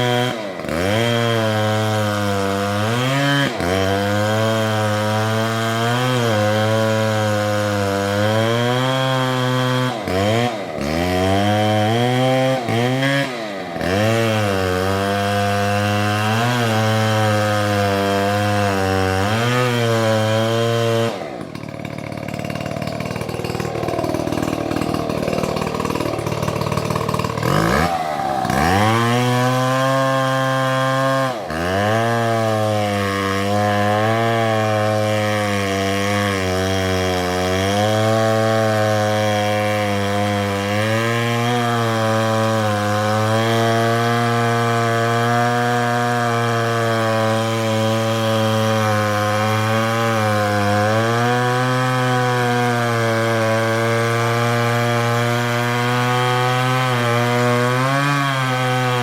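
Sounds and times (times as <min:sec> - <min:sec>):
chainsaw cutting through tree: 0:00.0 - 0:59.0.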